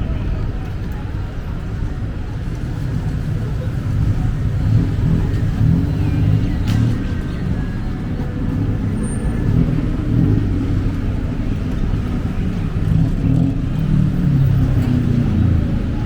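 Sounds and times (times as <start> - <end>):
road traffic engine rumble: 0.0 - 16.0.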